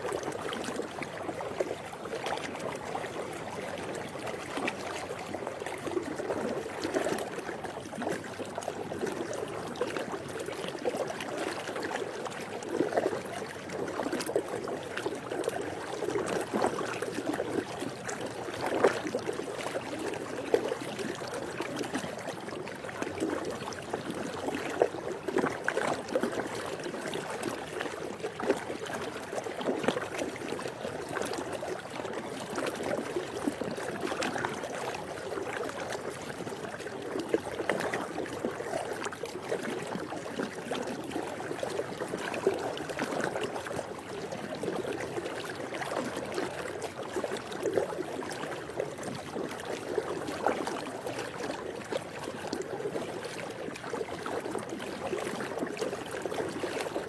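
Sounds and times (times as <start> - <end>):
pool water lapping and splashing: 0.0 - 57.0.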